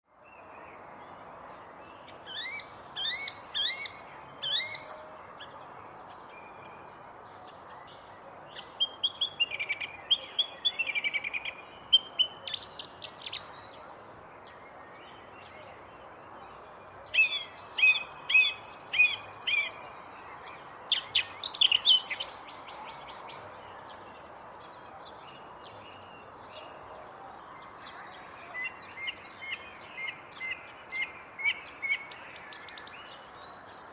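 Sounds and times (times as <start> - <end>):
background hiss: 0.2 - 33.9
bird chirping: 0.2 - 33.9.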